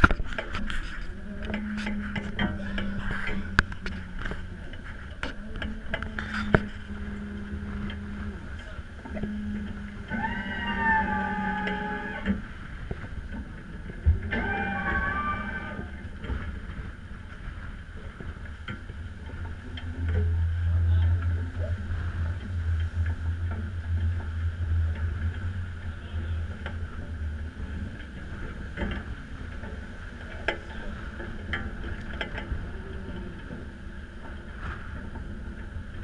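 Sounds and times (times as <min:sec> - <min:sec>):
low rumble of wind buffeting: 0:00.0 - 0:36.0
rushing water: 0:00.0 - 0:36.0
strong wind: 0:00.0 - 0:36.0.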